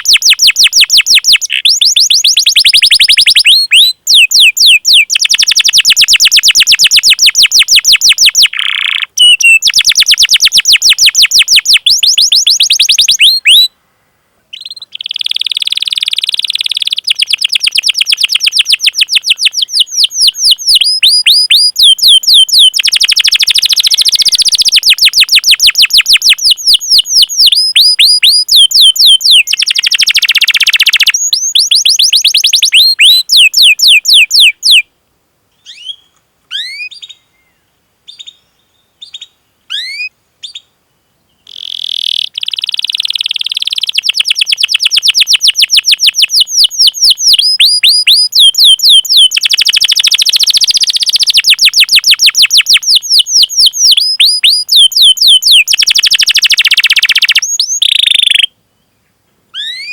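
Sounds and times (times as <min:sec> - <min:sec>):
canary singing trills: 0:00.0 - 0:13.8, 0:14.5 - 0:34.8, 0:35.6 - 0:40.7, 0:41.3 - 0:58.5, 0:59.5 - 0:59.9.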